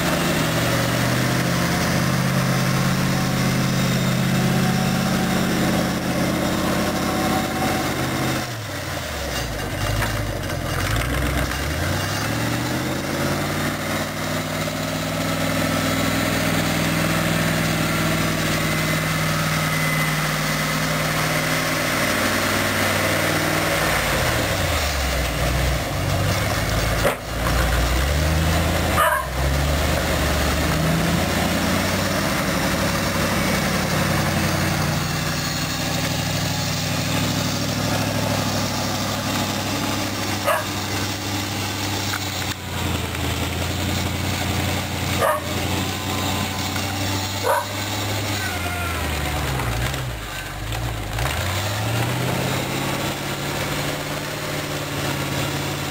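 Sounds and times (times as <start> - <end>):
tractor engine revving: 0.0 - 55.9.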